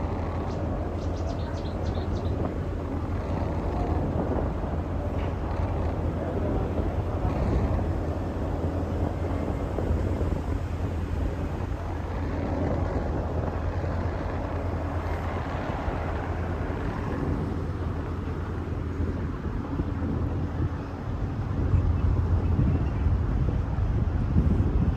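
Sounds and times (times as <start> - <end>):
boat engine drone: 0.0 - 24.9
wind noise: 0.0 - 24.9.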